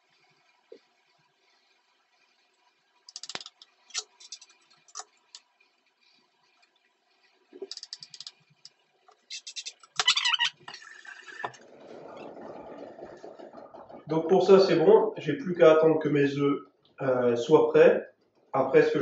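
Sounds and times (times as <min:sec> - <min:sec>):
tap water running: 0:00.0 - 0:15.8.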